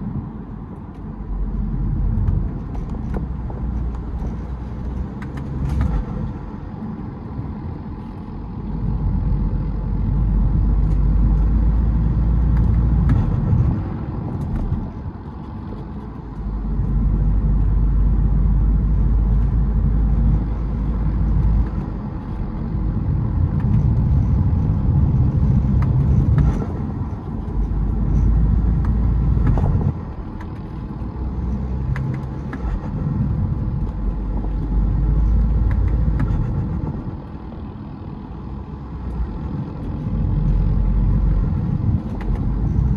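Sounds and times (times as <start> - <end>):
diesel car engine accelerating: 0.0 - 42.9.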